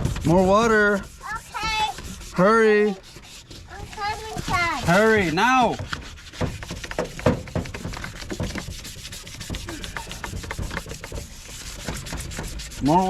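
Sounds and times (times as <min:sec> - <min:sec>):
hand scrubbing wet surface: 0:00.0 - 0:13.0.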